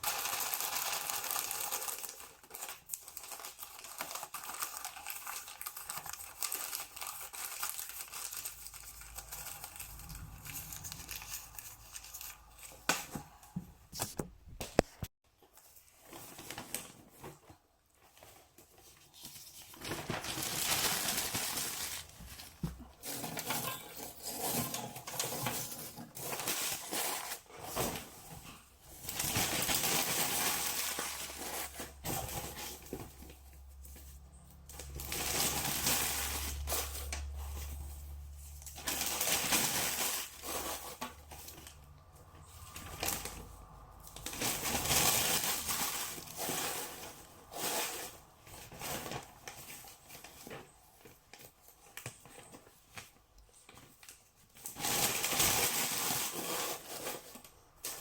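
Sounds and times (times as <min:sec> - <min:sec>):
paper or plastic rustling: 0:00.0 - 0:58.0.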